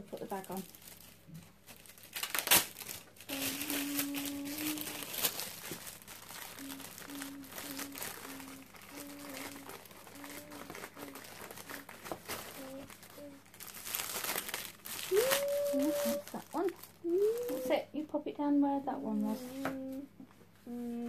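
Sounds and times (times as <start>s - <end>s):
plastic bag rustling: 0.0s - 17.8s.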